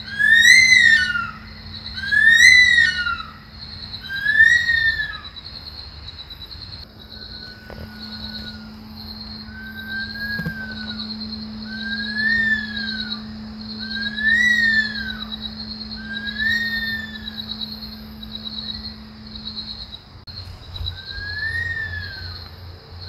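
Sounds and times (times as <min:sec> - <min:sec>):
bird wailing cries: 0:00.0 - 0:05.8, 0:06.4 - 0:23.0.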